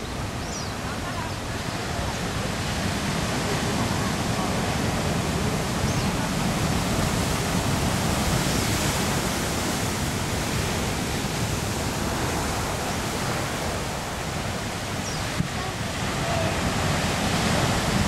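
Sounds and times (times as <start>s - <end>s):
ocean surf breaking on rocks: 0.0s - 18.0s.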